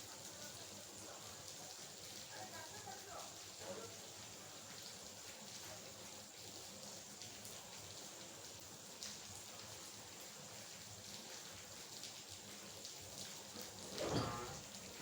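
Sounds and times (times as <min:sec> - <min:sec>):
light rain hissing: 0:00.0 - 0:15.0.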